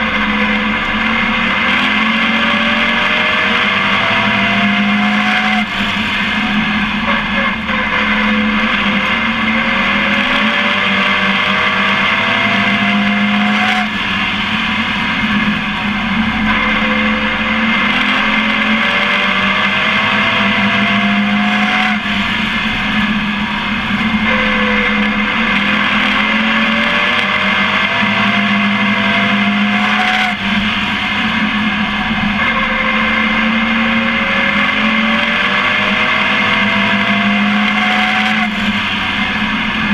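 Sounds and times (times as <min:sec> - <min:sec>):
race truck engine revving: 0:00.0 - 0:39.9
rushing wind and road noise: 0:00.0 - 0:39.9.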